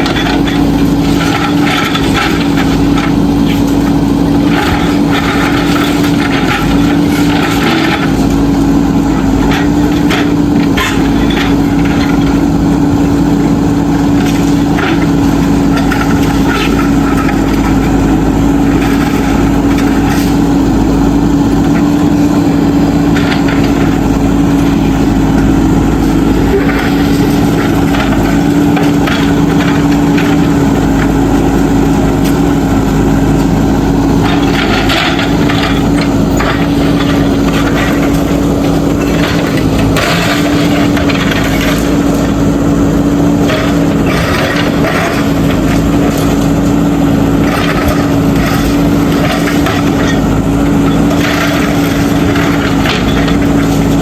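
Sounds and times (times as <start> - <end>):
knocks and clatter: 0.0 - 12.9, 14.0 - 20.6, 22.6 - 42.4, 43.2 - 46.8, 47.4 - 54.0
diesel engine running: 0.0 - 54.0.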